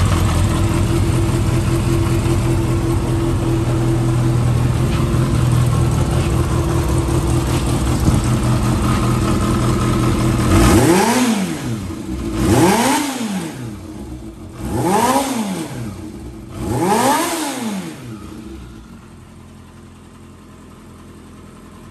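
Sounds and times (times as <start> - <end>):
motorcycle engine revving: 0.0 - 19.1
motorcycle engine idling: 0.0 - 21.9.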